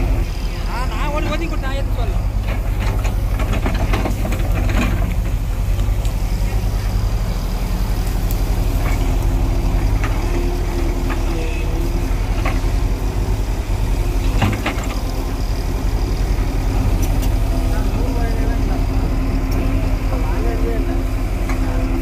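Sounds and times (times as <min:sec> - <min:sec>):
excavator diesel engine running: 0:00.0 - 0:22.0
hydraulic whine: 0:00.0 - 0:22.0.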